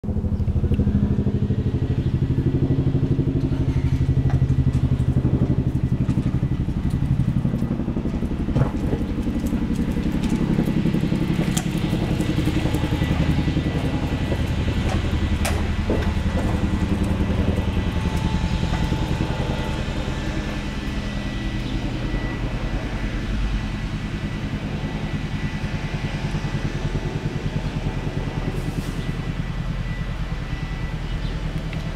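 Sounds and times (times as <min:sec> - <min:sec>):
helicopter rotors beating: 0:00.0 - 0:31.9.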